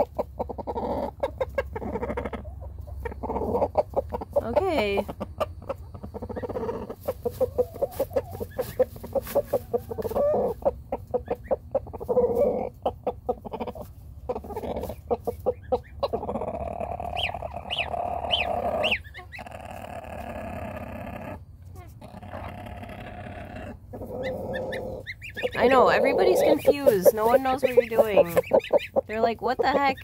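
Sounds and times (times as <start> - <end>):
goslings peeping: 0.0 - 30.0
rooster clucking: 0.0 - 30.0.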